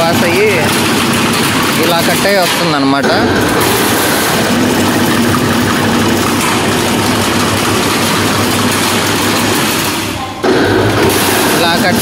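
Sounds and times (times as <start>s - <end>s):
wire mesh machine running: 0.0s - 12.0s.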